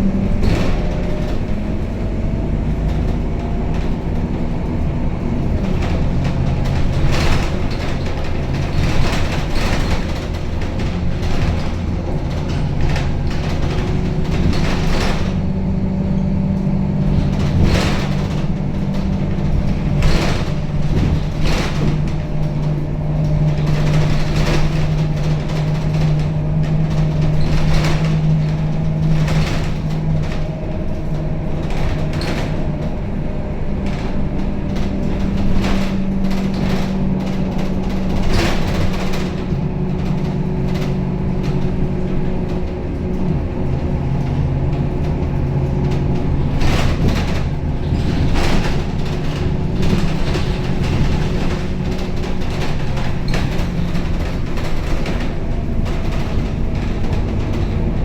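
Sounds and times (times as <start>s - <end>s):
bus body rattling and knocking: 0.0s - 58.0s
bus diesel engine droning: 0.0s - 58.0s.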